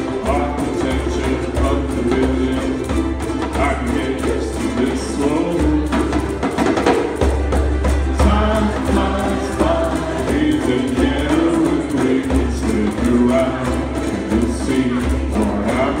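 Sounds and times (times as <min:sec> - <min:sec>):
lead voice at a microphone: 0:00.0 - 0:06.2, 0:08.1 - 0:16.0
group singing: 0:00.0 - 0:16.0
ukuleles strumming: 0:00.0 - 0:16.0.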